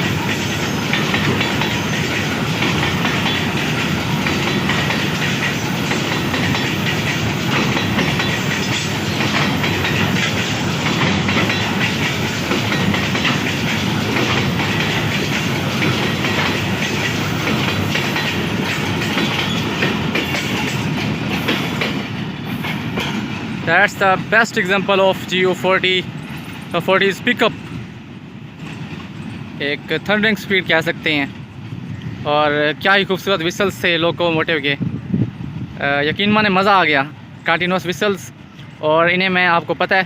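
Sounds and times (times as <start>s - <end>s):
freight train wheels clattering: 0.0s - 32.2s.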